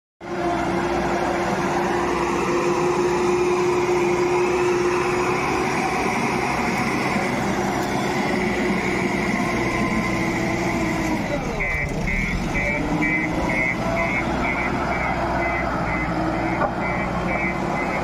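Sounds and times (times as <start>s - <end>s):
diesel engine running under load: 0.2s - 18.0s.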